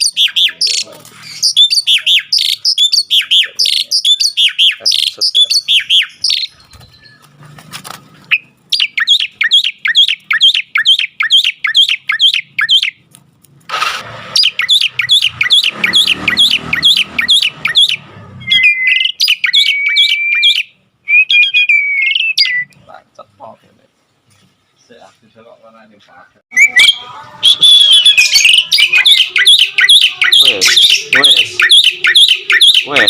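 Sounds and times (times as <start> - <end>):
bird whistle: 0.0 - 7.2, 8.3 - 13.0, 14.3 - 22.7, 26.5 - 33.0
birds chirping sharply: 0.0 - 23.6, 26.5 - 33.0.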